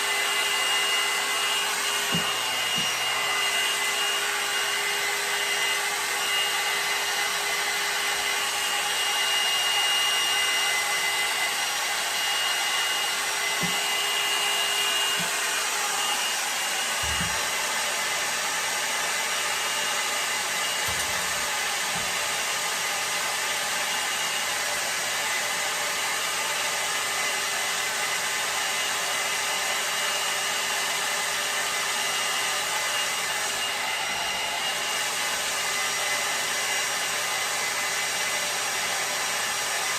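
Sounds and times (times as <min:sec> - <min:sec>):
motor whine: 0:00.0 - 0:37.1
hair dryer brush rushing air: 0:00.0 - 0:39.9.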